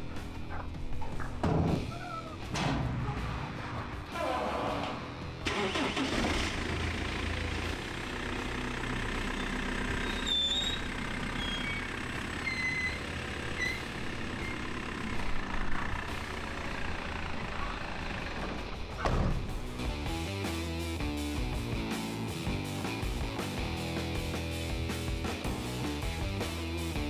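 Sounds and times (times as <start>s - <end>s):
car engine starting and running: 2.5s - 27.0s.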